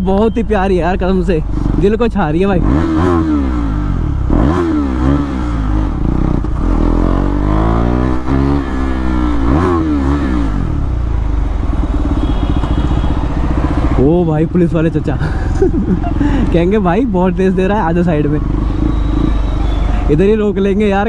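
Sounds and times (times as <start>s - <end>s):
motorcycle engine revving: 0.8s - 21.0s.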